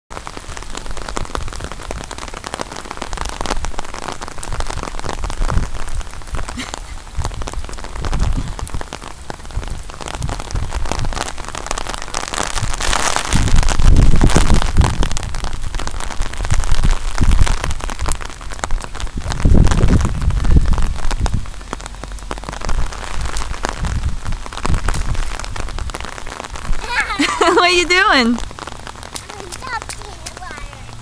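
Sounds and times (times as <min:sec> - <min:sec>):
steady rain falling: 0:00.1 - 0:31.0.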